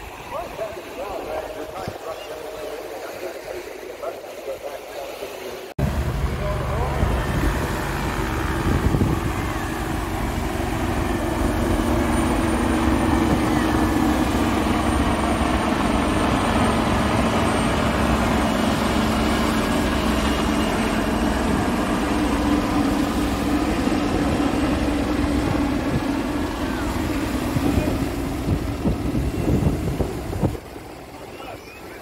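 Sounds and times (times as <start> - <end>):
helicopters flying overhead: 0.0 - 4.2, 5.8 - 32.0.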